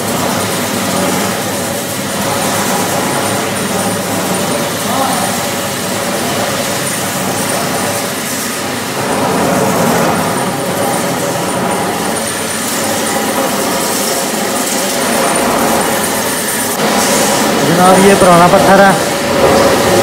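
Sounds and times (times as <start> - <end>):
floor-grinding machine drone: 0.0 - 20.0.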